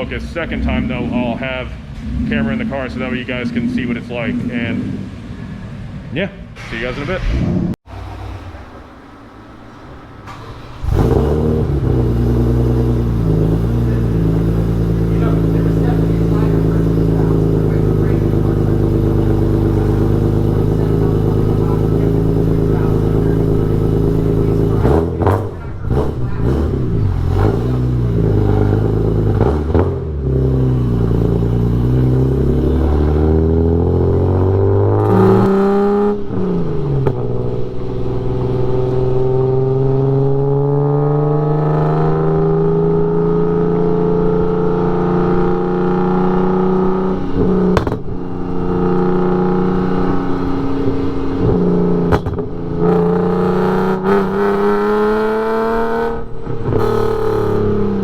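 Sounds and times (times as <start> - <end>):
car engine accelerating hard: 0.0 - 58.0.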